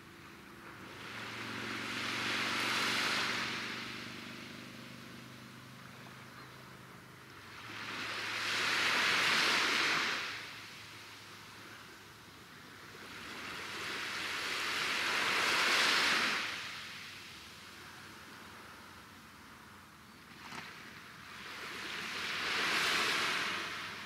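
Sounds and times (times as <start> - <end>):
waves washing in: 0.0 - 24.0.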